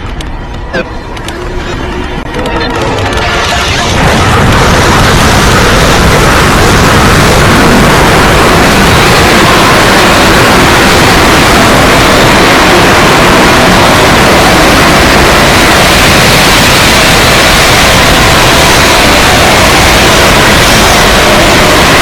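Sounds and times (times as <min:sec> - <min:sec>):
loud static noise: 0:00.0 - 0:22.0.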